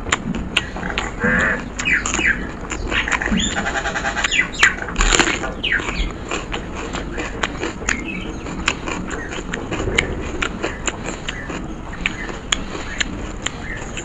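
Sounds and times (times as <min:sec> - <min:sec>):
chewing crunches: 0:00.0 - 0:14.0
wet mouth clicks: 0:00.0 - 0:14.0.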